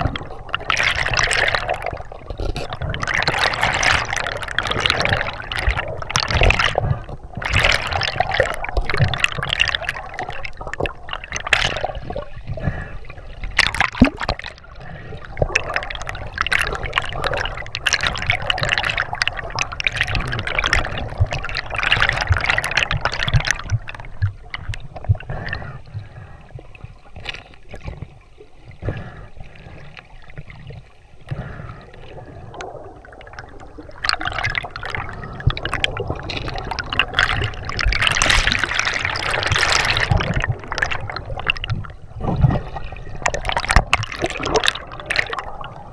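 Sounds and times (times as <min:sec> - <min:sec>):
air bubbles gurgling underwater: 0:00.0 - 0:45.9.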